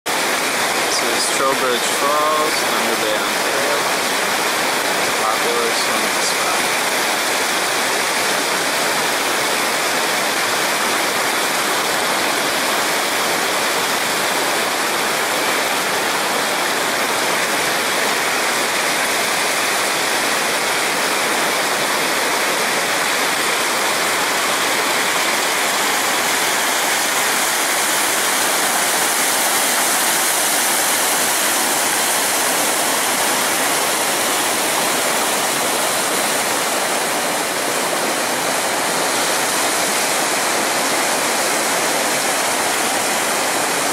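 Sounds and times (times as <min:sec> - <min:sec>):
river rapids rushing: 0:00.1 - 0:43.9.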